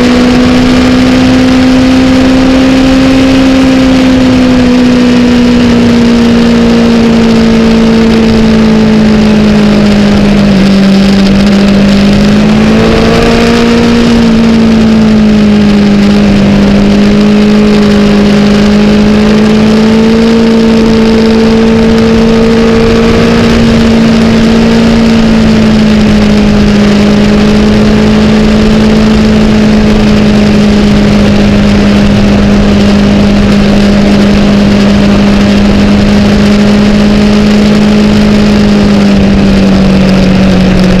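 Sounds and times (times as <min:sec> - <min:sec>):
motorcycle engine cruising: 0:00.0 - 0:41.0
wind rush on microphone: 0:00.0 - 0:41.0.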